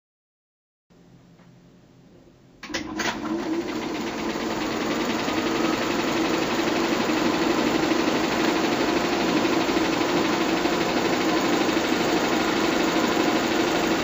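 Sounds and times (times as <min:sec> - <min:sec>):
motor hum: 0:02.6 - 0:14.0
film projector mechanical chatter: 0:02.7 - 0:14.0.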